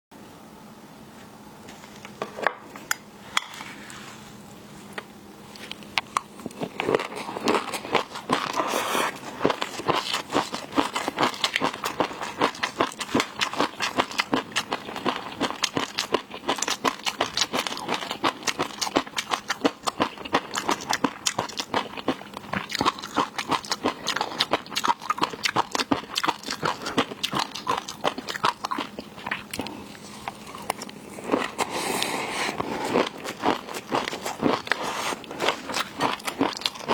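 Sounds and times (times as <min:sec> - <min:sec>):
wet crunching and chewing: 0:05.5 - 0:36.9.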